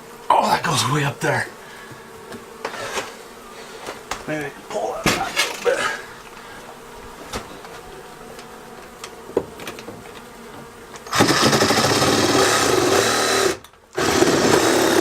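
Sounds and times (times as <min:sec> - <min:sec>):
bee vacuum motor running: 0:00.0 - 0:15.0
honey bees buzzing: 0:00.0 - 0:15.0.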